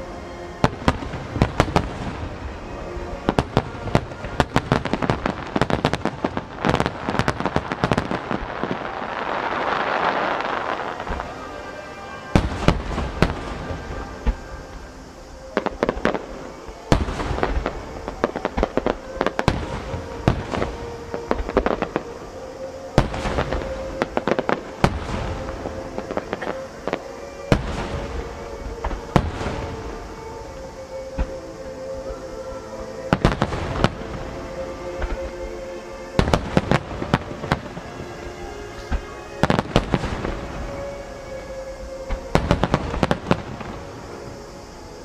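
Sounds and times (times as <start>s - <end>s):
music playing: 0.0s - 45.0s
fireworks bangs and crackle: 0.6s - 30.3s, 33.1s - 34.3s, 36.2s - 37.9s, 38.6s - 44.7s.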